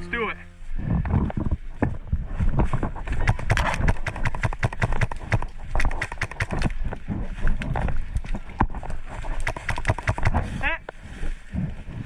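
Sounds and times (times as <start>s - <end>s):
quick footsteps: 0.9s - 10.6s.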